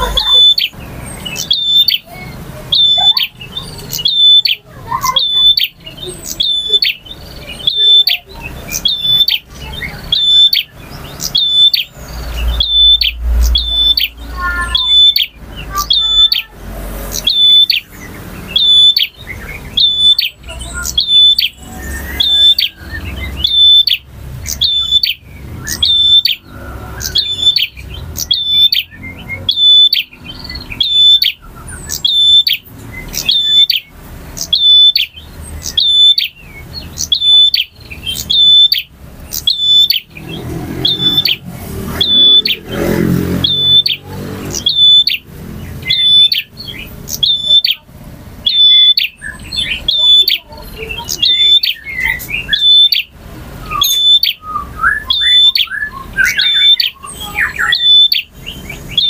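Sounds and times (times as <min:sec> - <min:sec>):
bird singing high chirps: 0:00.0 - 0:59.0
lower bird twittering: 0:00.0 - 0:59.0.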